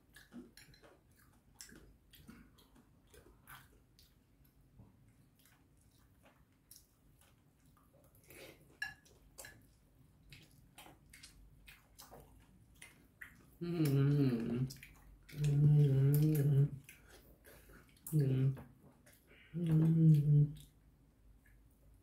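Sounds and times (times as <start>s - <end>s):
chewing: 0.0s - 21.8s.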